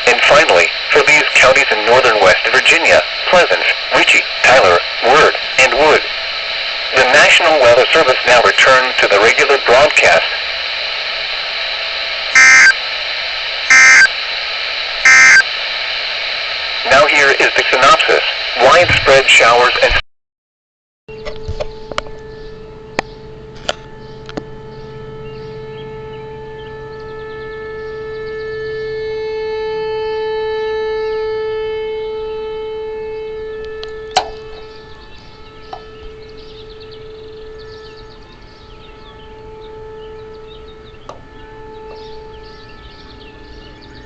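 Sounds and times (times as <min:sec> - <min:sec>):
warning siren steady tone: 0:00.0 - 0:20.0, 0:21.1 - 0:44.0.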